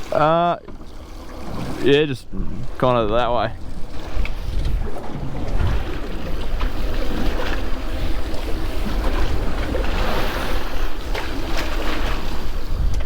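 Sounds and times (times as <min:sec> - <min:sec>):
waves washing against hull: 0:00.0 - 0:13.0
wind buffeting microphone: 0:00.8 - 0:13.0.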